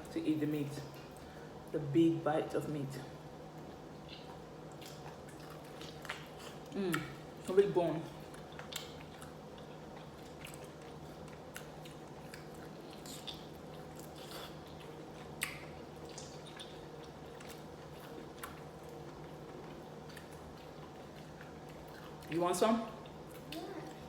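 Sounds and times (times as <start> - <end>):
steady low hum: 0.0 - 24.0
chewing meat: 3.6 - 24.0.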